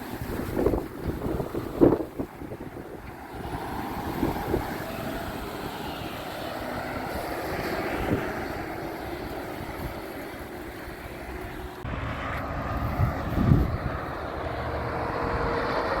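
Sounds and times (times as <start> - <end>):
motor vehicle running: 0.0 - 16.0.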